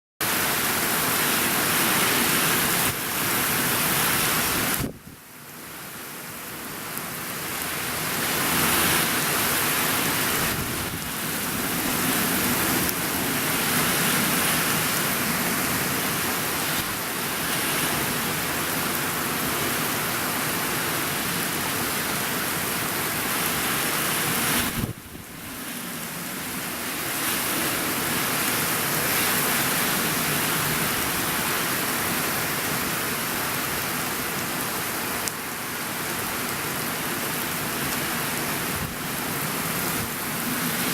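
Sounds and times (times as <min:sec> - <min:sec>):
heavy rain and wind: 0:00.2 - 0:40.9.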